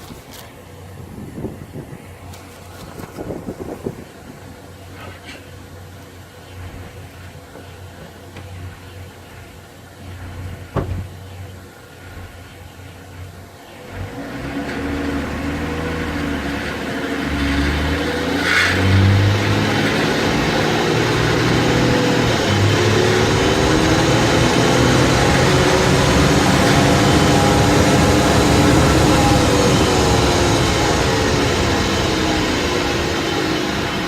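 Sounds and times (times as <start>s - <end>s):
road noise: 0.0s - 34.0s
car engine accelerating: 5.9s - 34.0s.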